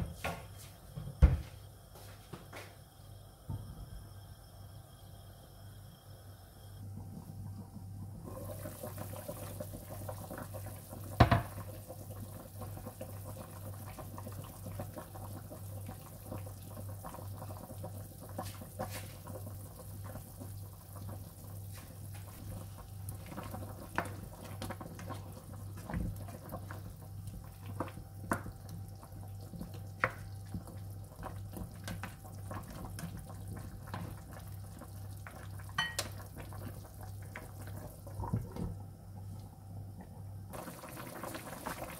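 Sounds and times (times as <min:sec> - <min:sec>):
low steady hum: 0:00.0 - 0:18.2, 0:19.0 - 0:41.9
broth bubbling in pan: 0:06.8 - 0:41.9.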